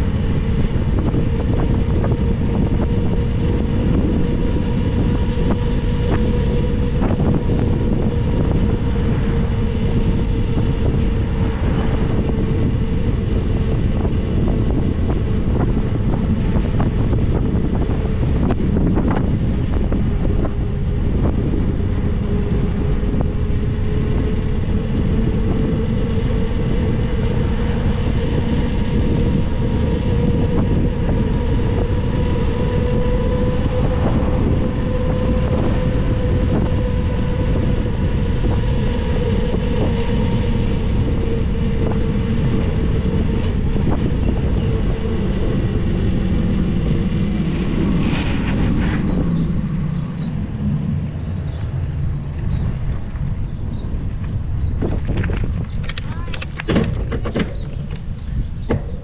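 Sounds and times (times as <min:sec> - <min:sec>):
steady whine: 0:00.0 - 0:59.0
wind rushing over microphone: 0:00.0 - 0:59.0.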